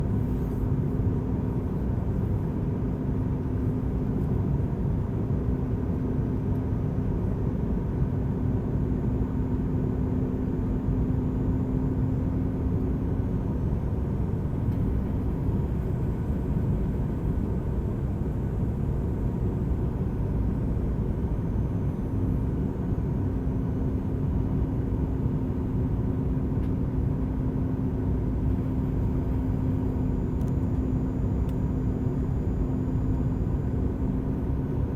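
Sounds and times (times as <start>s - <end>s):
airliner cabin engine rumble: 0.0s - 34.9s.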